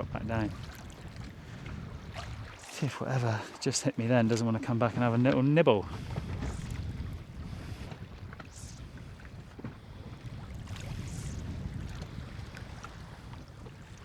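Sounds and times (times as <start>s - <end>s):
sea noise around hull: 0.0s - 14.0s
wind buffeting microphone: 0.0s - 14.0s.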